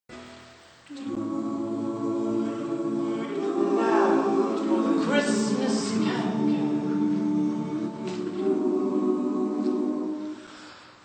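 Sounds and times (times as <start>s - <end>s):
choir singing held chords: 0.2s - 11.0s.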